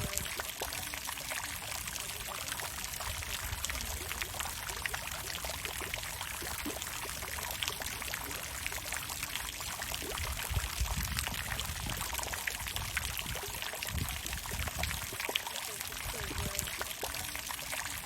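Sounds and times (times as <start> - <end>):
water fountain splashing: 0.0 - 18.0.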